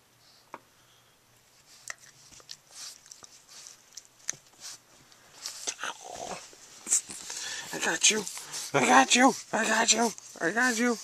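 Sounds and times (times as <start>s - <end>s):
dog breathy noises: 1.5s - 11.0s.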